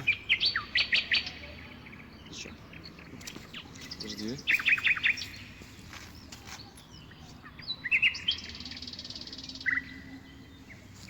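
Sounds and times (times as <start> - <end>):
small birds singing: 0.0 - 11.0.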